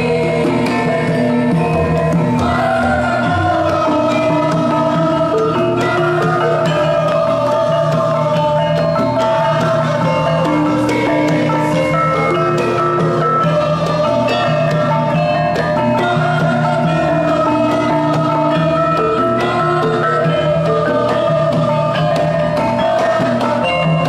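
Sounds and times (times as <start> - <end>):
hand drum: 0.0 - 24.0.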